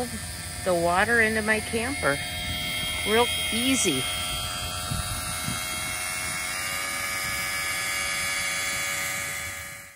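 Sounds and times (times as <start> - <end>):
electric water pump whining: 0.0 - 9.9.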